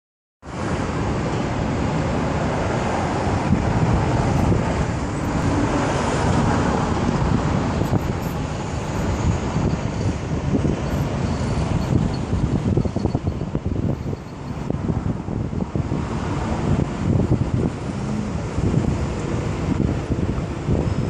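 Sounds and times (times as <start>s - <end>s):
highway traffic: 0.4s - 21.0s.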